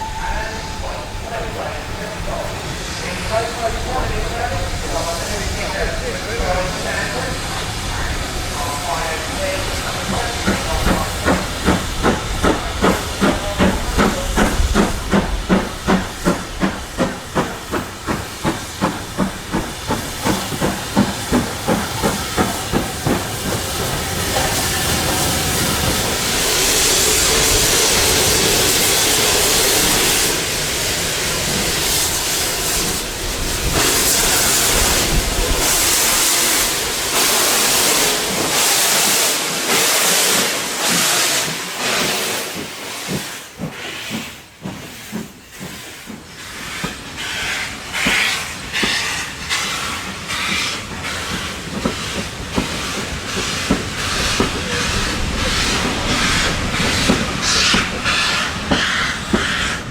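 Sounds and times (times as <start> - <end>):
hiss of escaping steam: 0.0 - 59.9
steam locomotive chuffing: 0.0 - 59.9.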